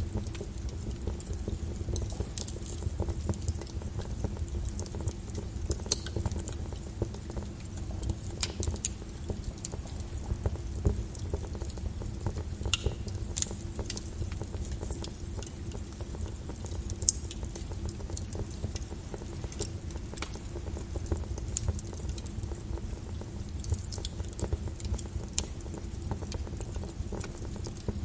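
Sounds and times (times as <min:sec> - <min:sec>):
low rumble of fire: 0:00.0 - 0:28.0
wood fire crackling: 0:00.0 - 0:28.0.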